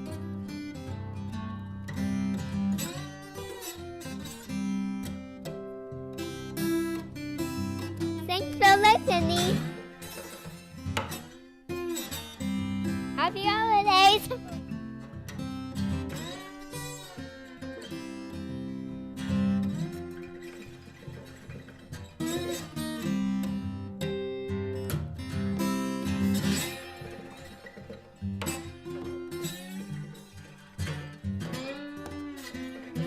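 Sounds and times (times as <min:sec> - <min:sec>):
instrumental acoustic guitar music: 0:00.0 - 0:33.0.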